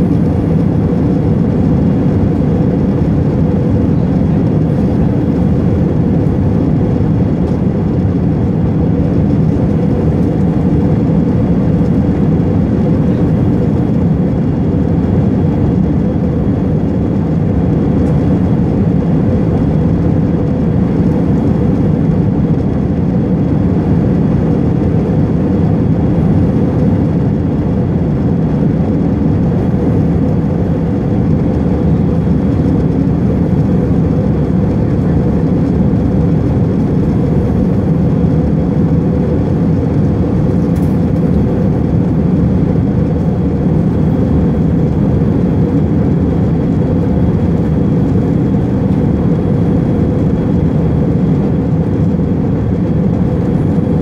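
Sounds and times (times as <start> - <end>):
jet engine and airflow rush: 0.0 - 54.0.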